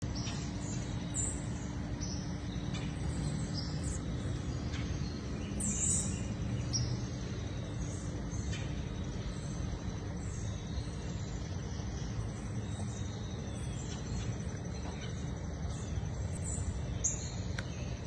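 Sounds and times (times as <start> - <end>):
birds chirping: 0.0 - 18.0
steady low rumble: 0.0 - 18.0.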